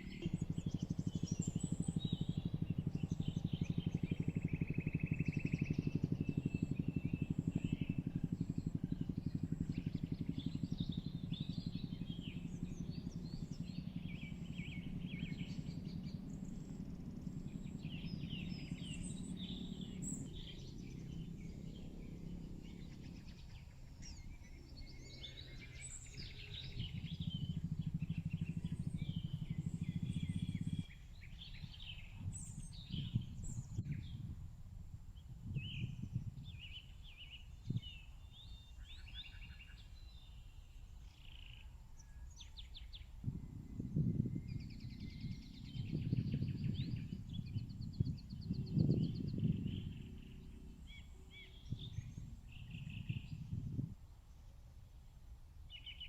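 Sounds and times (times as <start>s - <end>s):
small birds chirping and trilling: 0.0s - 34.4s, 35.2s - 54.6s, 55.7s - 56.0s
low rumble: 0.0s - 36.8s, 43.2s - 54.0s.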